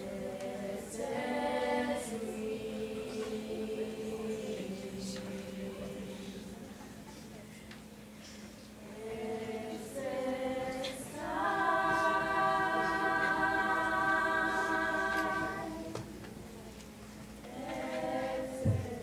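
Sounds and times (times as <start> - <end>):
choir singing unaccompanied: 0.0 - 6.8, 8.8 - 16.4, 17.4 - 19.0.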